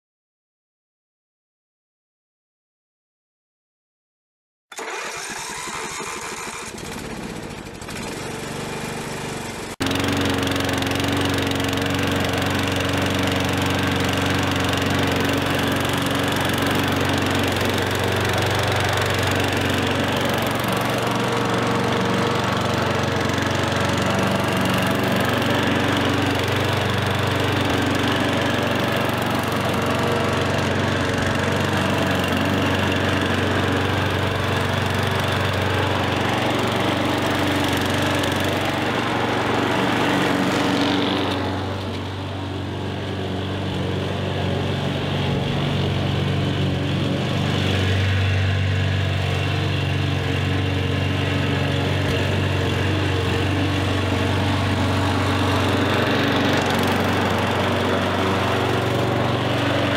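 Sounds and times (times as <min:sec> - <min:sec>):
lawn mower engine running: 0:04.7 - 0:59.9.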